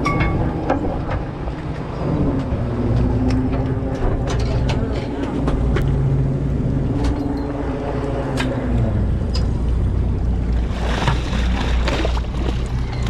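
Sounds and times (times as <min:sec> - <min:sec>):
boat engine droning: 0:00.0 - 0:13.0
water splashing at hull: 0:00.0 - 0:13.0.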